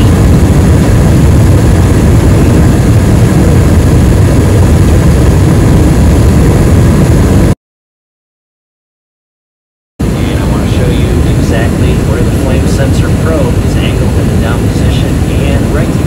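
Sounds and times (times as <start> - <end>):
furnace burners and fan roaring: 0.0 - 7.6, 10.0 - 16.0.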